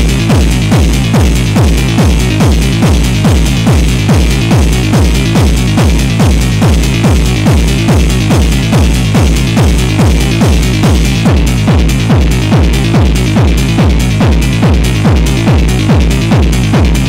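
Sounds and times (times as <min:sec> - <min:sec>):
techno kick drum: 0:00.0 - 0:17.0.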